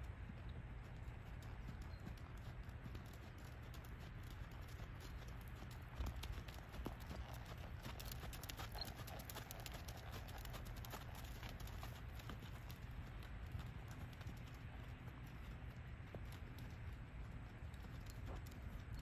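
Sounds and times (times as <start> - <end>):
hoofbeats on dirt: 0.0 - 19.0.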